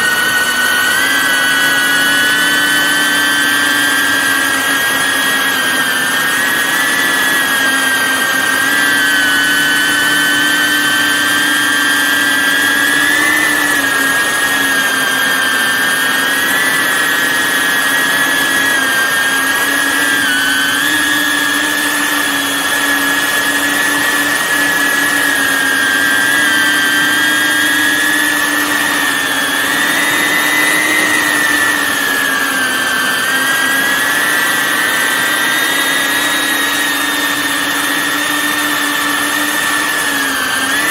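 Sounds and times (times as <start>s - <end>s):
drone propellers whining: 0.0s - 40.9s.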